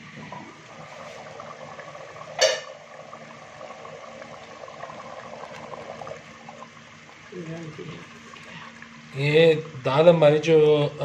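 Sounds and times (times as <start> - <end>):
lentils bubbling: 0.0 - 11.0.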